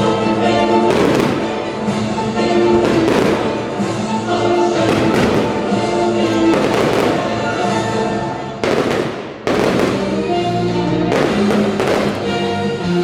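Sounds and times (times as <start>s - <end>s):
fireworks bursting: 0.0s - 13.0s
music with long held notes: 0.0s - 13.0s.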